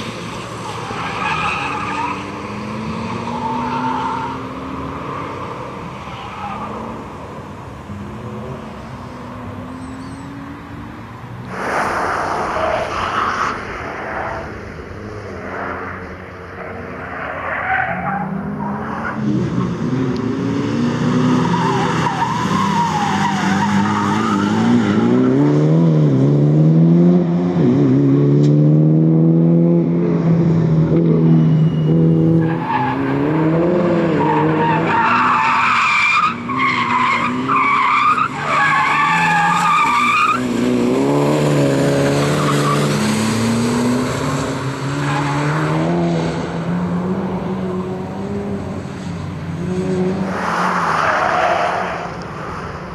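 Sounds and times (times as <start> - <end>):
car engine driven hard: 0.0 - 52.9.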